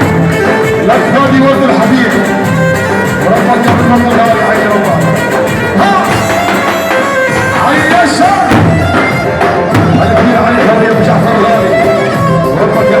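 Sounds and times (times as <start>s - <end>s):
amplified folk dance music: 0.0s - 13.0s
violin-like lead melody: 0.0s - 13.0s.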